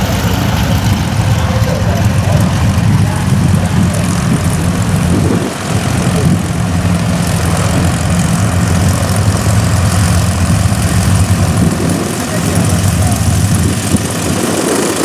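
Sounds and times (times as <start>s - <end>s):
propeller plane engine taxiing: 0.0s - 15.0s.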